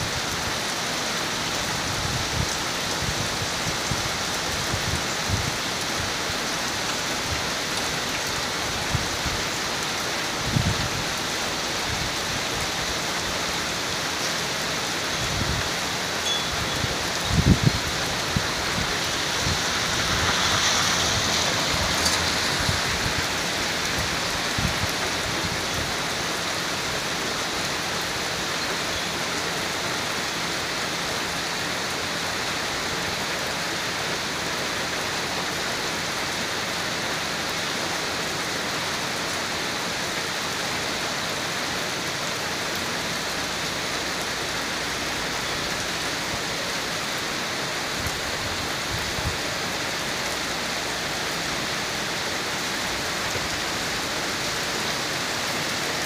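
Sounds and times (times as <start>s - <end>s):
heavy rain on wet ground: 0.0s - 56.0s.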